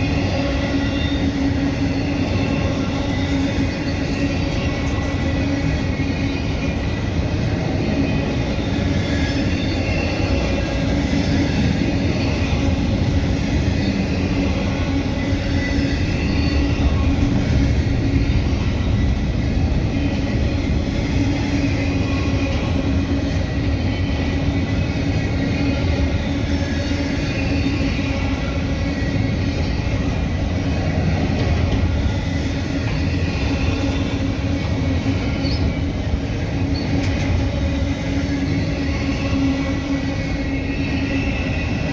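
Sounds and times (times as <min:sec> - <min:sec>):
freight train rumbling on rails: 0:00.0 - 0:41.9.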